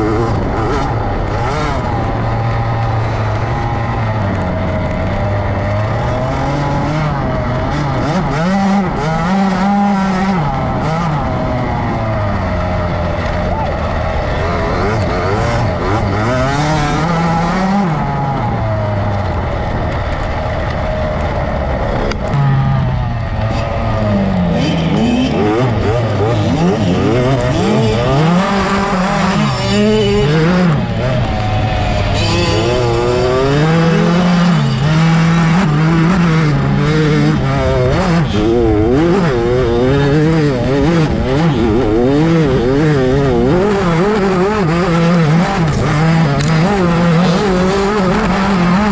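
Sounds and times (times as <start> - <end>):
two-stroke engine racing: 0.0 - 48.9.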